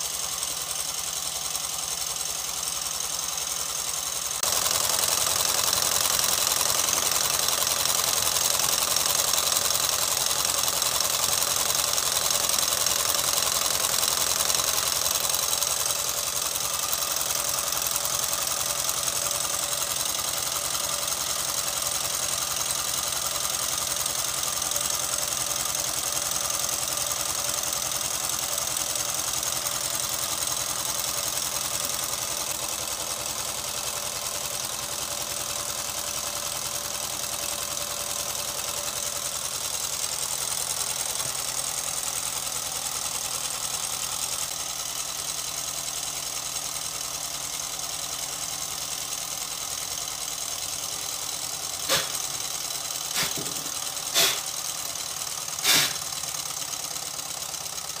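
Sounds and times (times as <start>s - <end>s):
small engine mechanical clatter: 0.0s - 58.0s.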